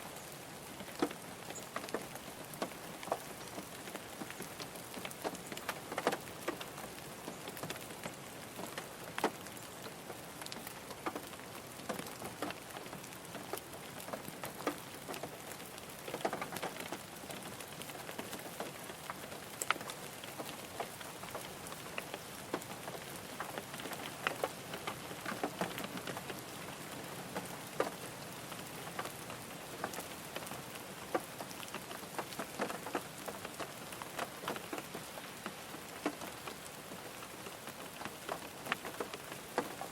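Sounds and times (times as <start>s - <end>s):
rain pattering on car roof: 0.0s - 39.9s
sharp raindrop ticks: 0.8s - 39.9s.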